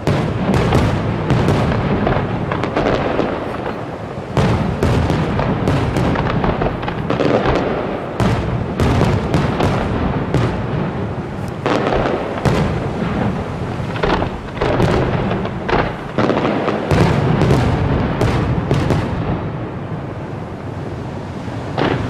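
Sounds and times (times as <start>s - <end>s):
continuous rumble: 0.0s - 22.0s
fireworks bursting: 0.0s - 22.0s.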